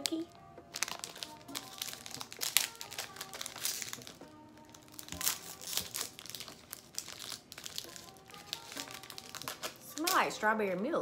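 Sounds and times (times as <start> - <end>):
plastic wrapper crinkling: 0.0 - 10.4
soft background music: 0.0 - 11.0.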